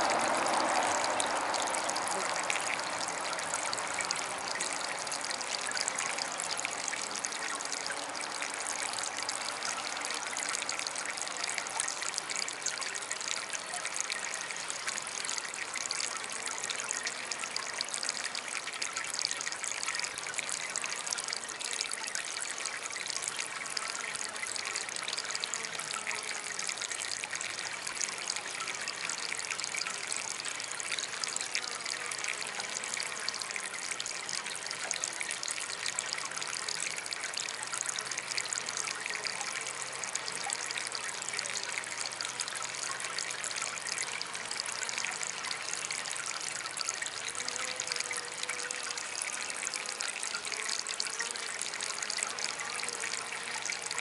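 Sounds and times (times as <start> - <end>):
water fountain trickling: 0.0 - 54.0.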